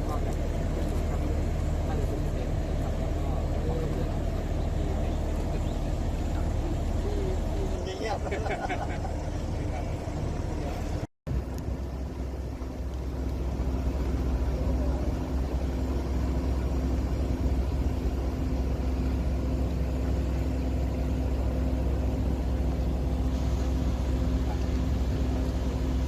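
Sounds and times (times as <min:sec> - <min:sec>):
large engine deep drone: 0:00.0 - 0:26.0.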